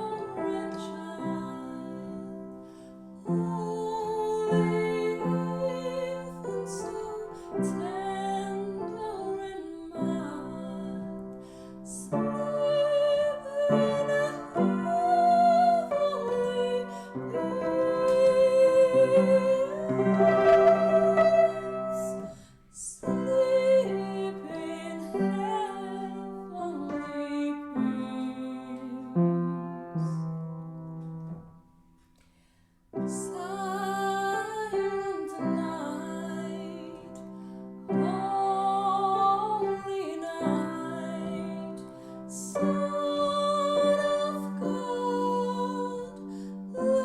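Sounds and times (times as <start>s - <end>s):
person singing a carol: 0.0s - 2.6s, 3.2s - 30.2s, 33.0s - 37.2s, 37.9s - 47.0s
piano accompaniment: 0.0s - 32.0s, 32.9s - 47.0s.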